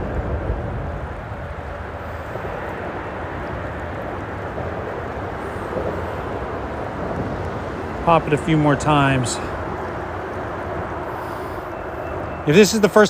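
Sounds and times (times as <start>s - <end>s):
freeway traffic on a bridge: 0.0s - 13.0s.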